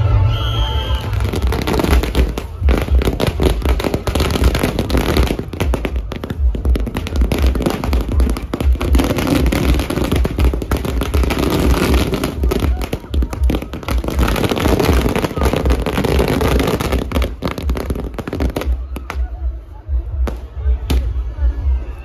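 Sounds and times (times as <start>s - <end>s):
firecrackers going off: 0.0s - 19.4s.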